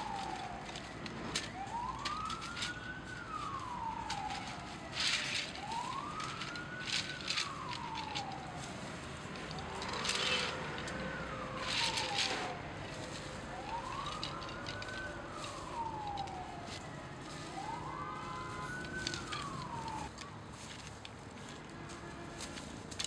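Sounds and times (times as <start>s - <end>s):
siren wailing: 0.0s - 20.2s
bamboo sticks clicking: 0.0s - 23.0s.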